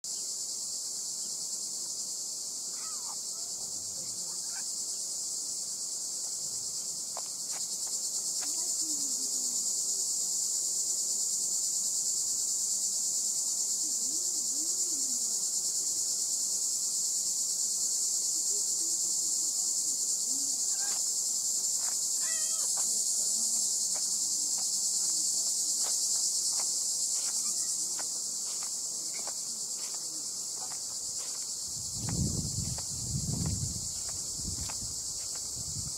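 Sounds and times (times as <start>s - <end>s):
high-pitched insect chorus: 0.0s - 35.9s.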